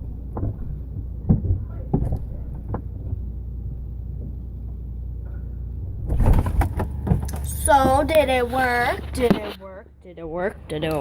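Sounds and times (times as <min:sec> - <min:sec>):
refrigerator hum: 0:00.0 - 0:11.0.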